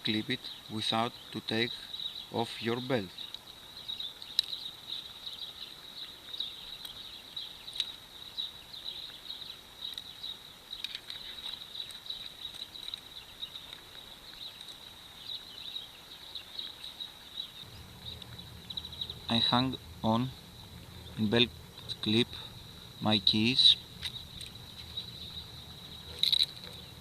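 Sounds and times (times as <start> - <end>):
insects chirping trill: 0.0 - 27.0.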